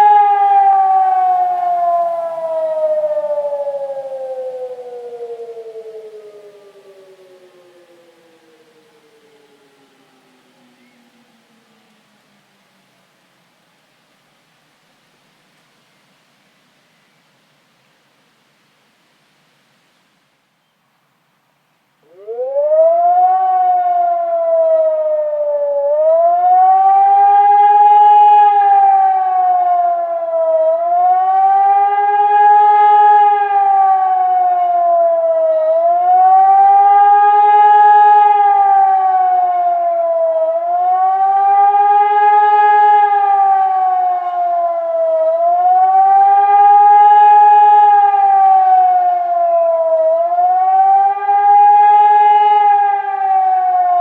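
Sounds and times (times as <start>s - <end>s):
electronic siren wailing: 0.0s - 12.0s, 22.0s - 54.0s.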